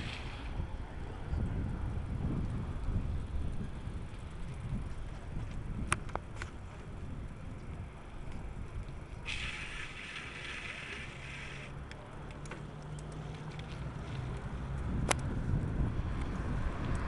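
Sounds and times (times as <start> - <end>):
wind buffeting microphone: 0.0 - 11.6, 13.2 - 17.0
bicycle road rumble: 0.0 - 17.0.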